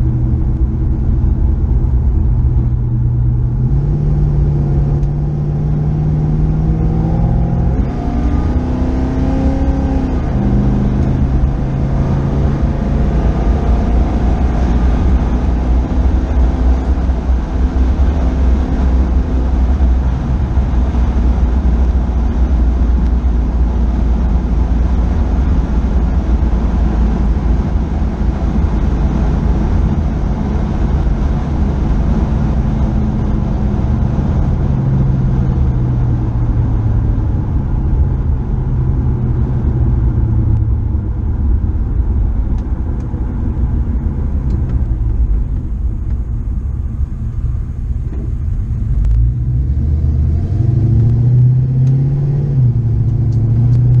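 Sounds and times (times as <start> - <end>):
car engine: 0.0 - 54.0
road noise: 0.0 - 54.0.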